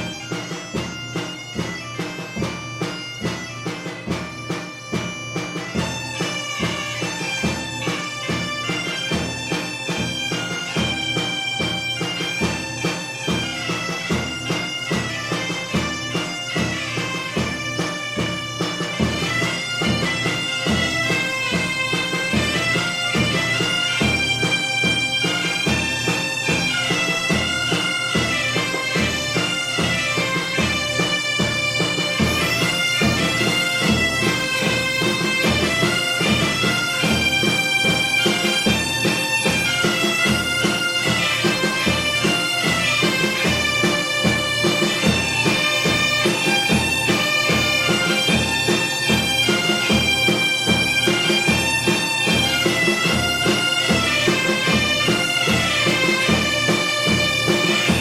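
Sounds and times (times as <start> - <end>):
instrumental melody: 0.0 - 58.0.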